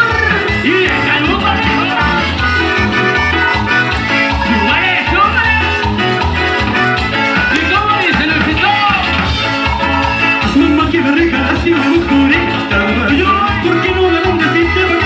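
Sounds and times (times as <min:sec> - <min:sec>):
band playing latin dance music: 0:00.0 - 0:15.0.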